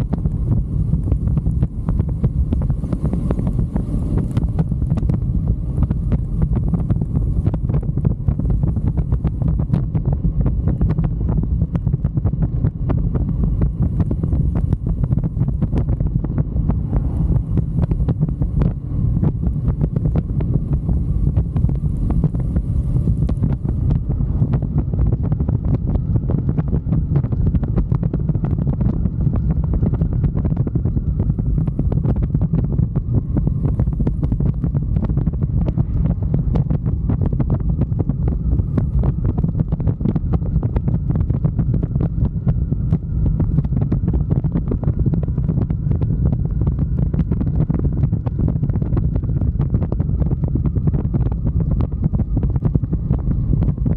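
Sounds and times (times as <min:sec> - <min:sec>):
motorcycle running: 0:00.0 - 0:53.9
road noise: 0:00.0 - 0:53.9
wind buffeting microphone: 0:00.0 - 0:53.9.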